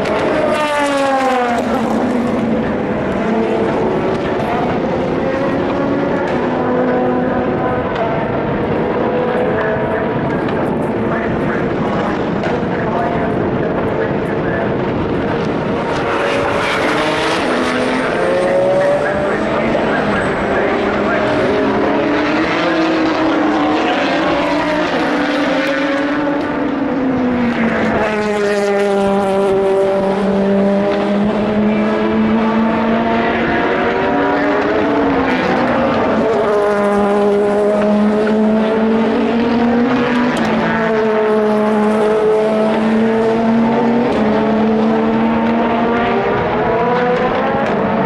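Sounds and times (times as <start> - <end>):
race cars passing at speed: 0.0 - 48.0.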